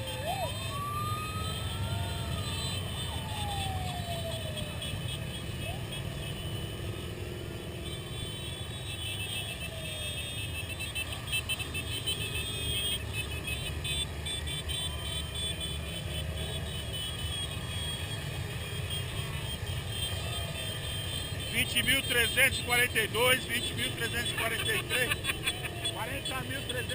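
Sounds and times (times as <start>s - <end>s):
motorcycle engines rumbling: 0.0s - 26.9s
motorcycles revving: 0.0s - 26.9s.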